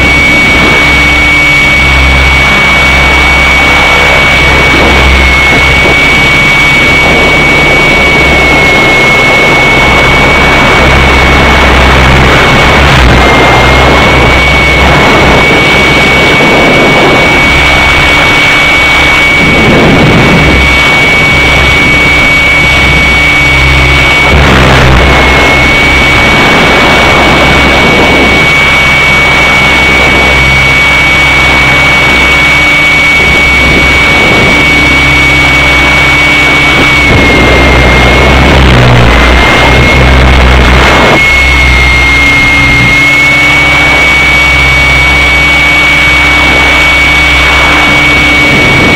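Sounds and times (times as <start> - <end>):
helicopter rotor: 0.0 - 48.9
high-pitched motor whine: 0.0 - 48.9
wind noise: 0.0 - 48.9.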